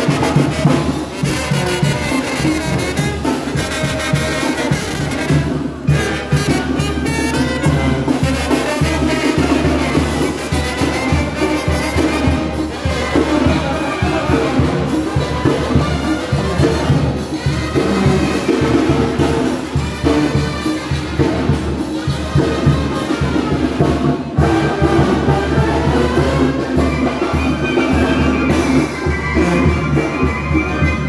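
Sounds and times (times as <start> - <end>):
brass band playing dance music: 0.0 - 31.0
steady drum beat: 0.0 - 31.0.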